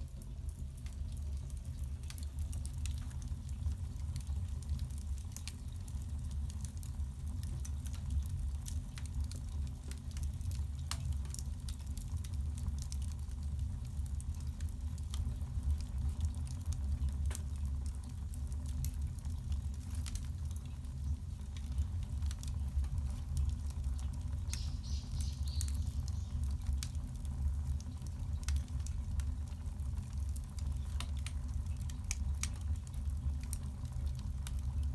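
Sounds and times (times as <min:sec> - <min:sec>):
burning wood crackling and popping: 0:00.0 - 0:34.9
low fire rumble: 0:00.0 - 0:34.9.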